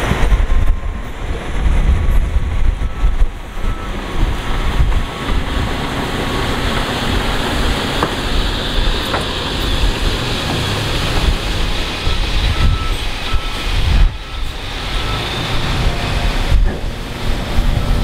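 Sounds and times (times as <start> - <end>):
heavy diesel engines running: 0.0 - 18.0.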